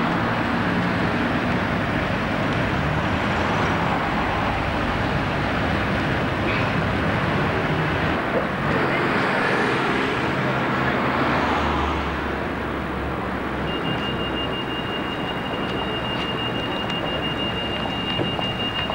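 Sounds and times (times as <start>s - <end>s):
cars running along street: 0.0s - 18.9s.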